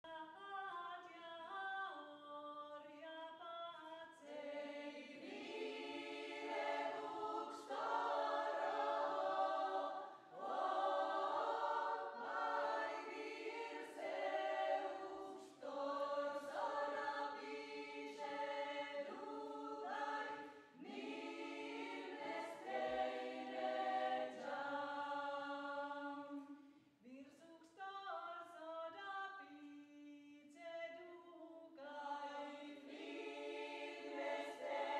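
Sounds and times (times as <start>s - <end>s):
women's choir singing a cappella: 1.4s - 26.7s, 28.0s - 34.9s.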